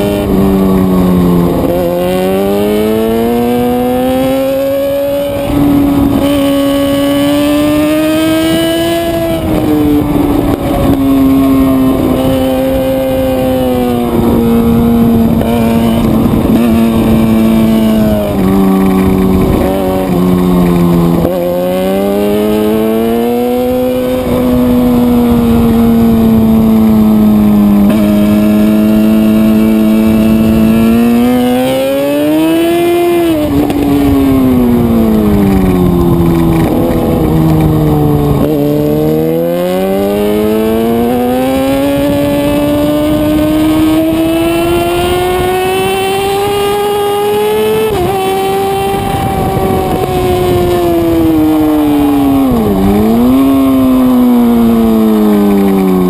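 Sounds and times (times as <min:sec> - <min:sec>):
motorcycle engine revving high: 0:00.0 - 0:56.0.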